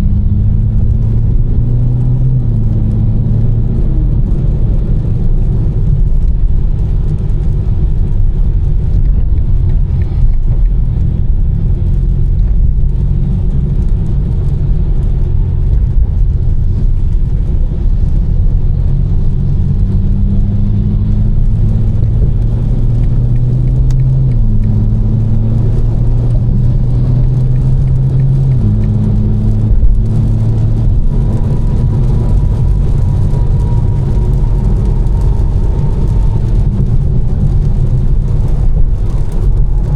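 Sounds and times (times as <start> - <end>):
road rumble: 0.0 - 39.9.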